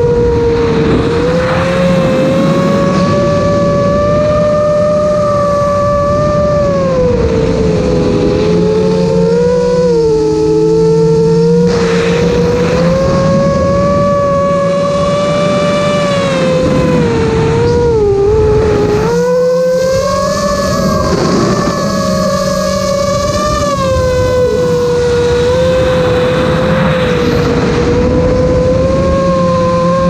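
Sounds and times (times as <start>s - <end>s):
drone motors whining: 0.0s - 30.0s
lower motor tone: 0.0s - 30.0s
rushing wind noise: 0.0s - 30.0s.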